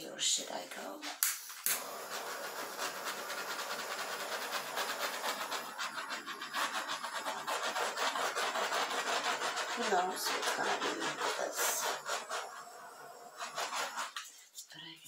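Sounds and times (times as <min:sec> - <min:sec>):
painting tool scraping paint: 0:01.7 - 0:14.4.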